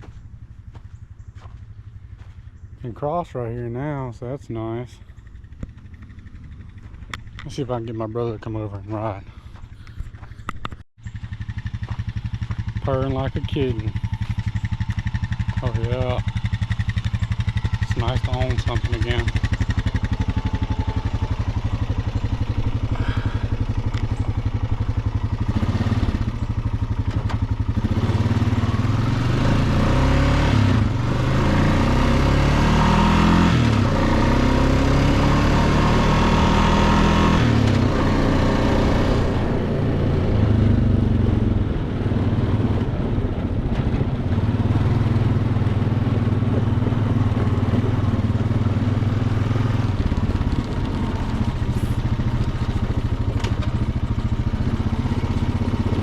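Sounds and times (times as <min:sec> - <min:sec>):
atv engine revving: 0:03.6 - 0:56.0.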